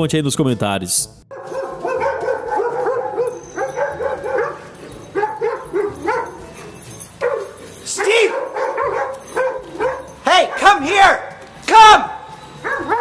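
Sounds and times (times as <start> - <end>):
dogs barking: 1.3 - 11.4, 12.1 - 13.0.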